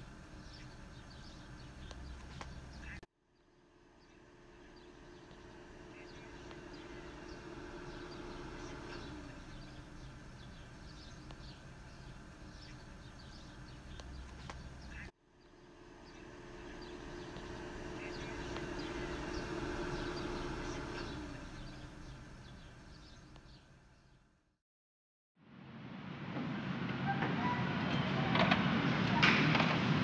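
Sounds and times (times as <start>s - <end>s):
birds chirping: 0.0s - 24.3s
steady low hum: 0.0s - 24.3s.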